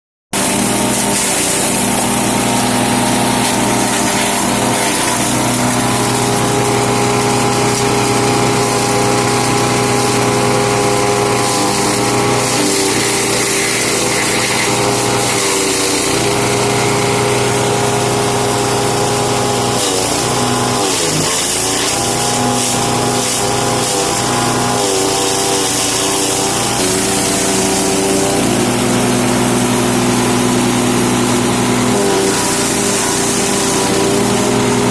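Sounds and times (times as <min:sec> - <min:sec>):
wood chipper engine running: 0:00.3 - 0:34.9.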